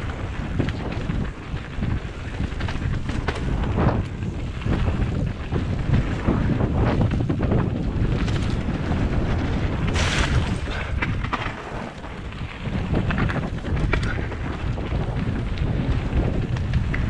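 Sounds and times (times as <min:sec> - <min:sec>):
mountain bike rumbling and rattling: 0:00.0 - 0:17.0
wind buffeting microphone: 0:00.0 - 0:17.0.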